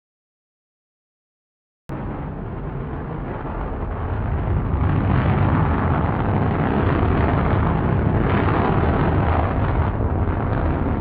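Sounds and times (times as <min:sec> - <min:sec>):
rocket motor roaring: 0:01.9 - 0:11.0.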